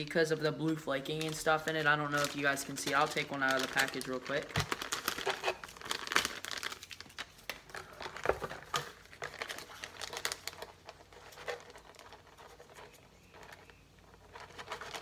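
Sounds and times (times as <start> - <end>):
plastic packet crinkling: 0.0 - 15.0.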